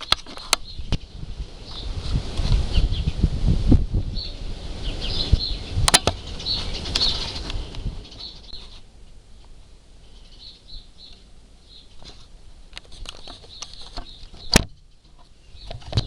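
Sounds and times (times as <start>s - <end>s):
small birds chirping: 0.0s - 3.3s, 3.9s - 16.0s.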